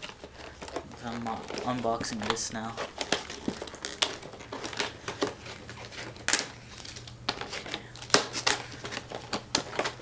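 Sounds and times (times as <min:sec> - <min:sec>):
cardboard box crinkling and rustling: 0:00.0 - 0:10.0.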